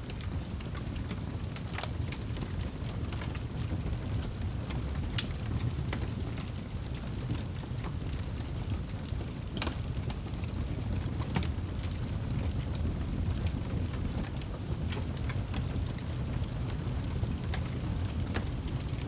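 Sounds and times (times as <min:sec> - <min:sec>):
fire crackling and popping: 0:00.0 - 0:19.0
rain: 0:00.0 - 0:19.0.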